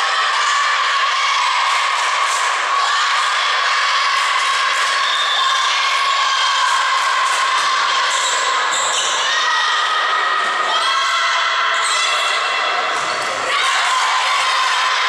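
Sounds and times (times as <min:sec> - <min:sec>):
girls shouting and cheering: 0:00.0 - 0:15.0.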